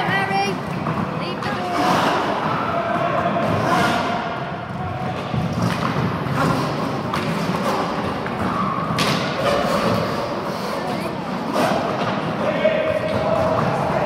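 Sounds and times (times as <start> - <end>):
faint voices: 0.0 - 14.0
roller skate wheels rumbling: 0.0 - 14.0.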